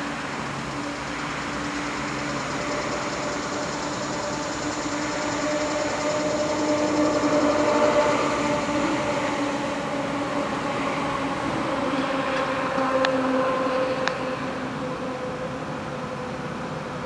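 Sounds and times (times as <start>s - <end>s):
diesel train droning: 0.0s - 17.0s.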